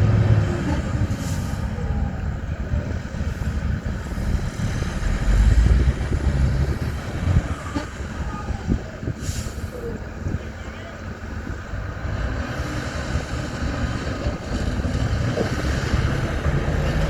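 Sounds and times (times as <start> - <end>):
diesel machinery engine rumble: 0.0 - 17.0.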